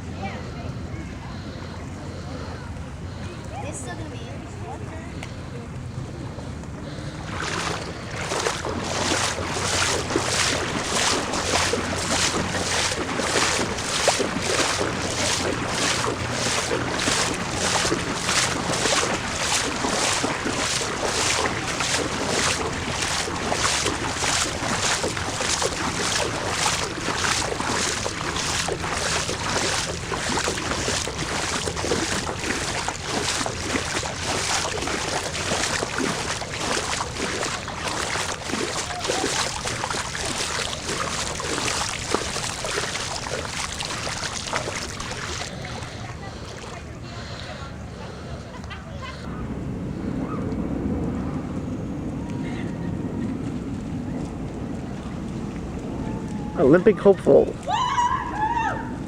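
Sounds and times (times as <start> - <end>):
rhythmic splashing in water: 1.3 - 49.1.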